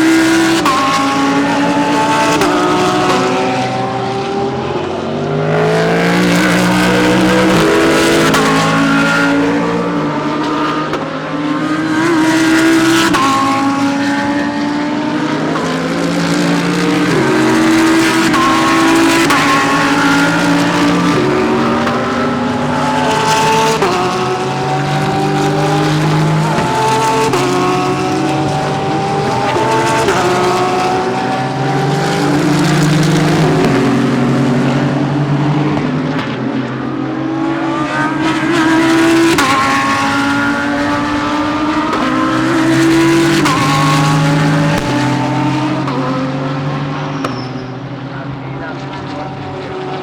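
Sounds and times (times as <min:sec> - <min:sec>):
race cars accelerating: 0:00.0 - 0:50.0.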